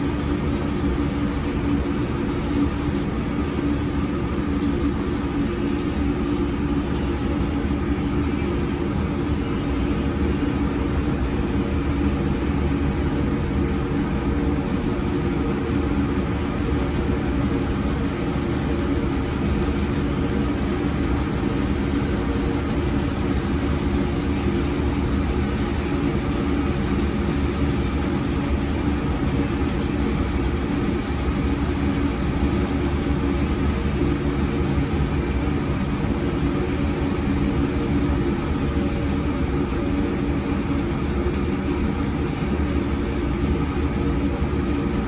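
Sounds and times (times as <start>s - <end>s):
kitchen machinery humming: 0.0s - 45.0s.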